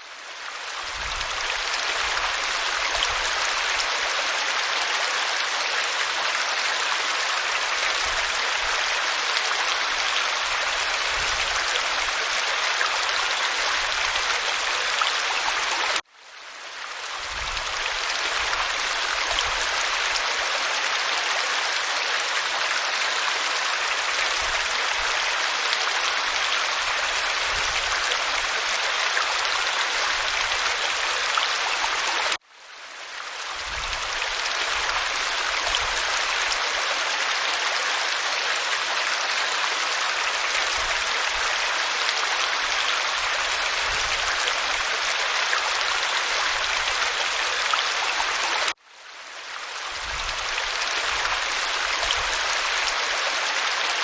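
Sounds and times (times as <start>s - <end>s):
waterfall rushing over rock: 0.4s - 16.0s, 17.0s - 32.4s, 33.3s - 48.8s, 49.6s - 54.0s.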